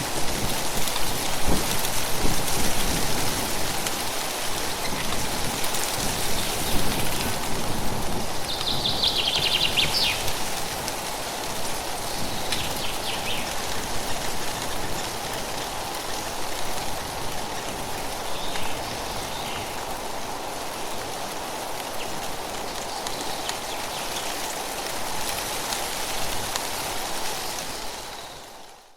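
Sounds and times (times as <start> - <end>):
wind rustling through leaves: 0.0 - 28.9.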